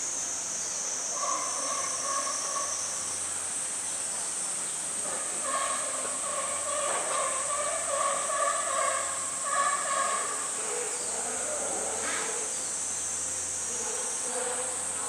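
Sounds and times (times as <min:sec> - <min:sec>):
cicadas shrilling: 0:00.0 - 0:15.0
lower insect buzz: 0:00.0 - 0:15.0.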